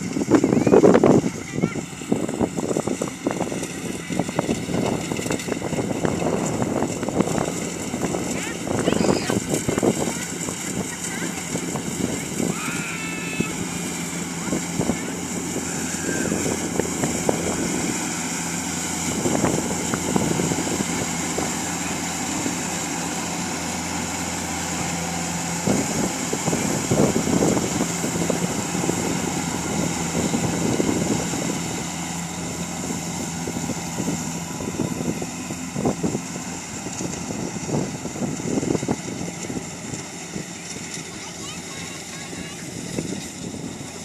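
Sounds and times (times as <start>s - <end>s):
cutting machine humming: 0.0s - 44.0s.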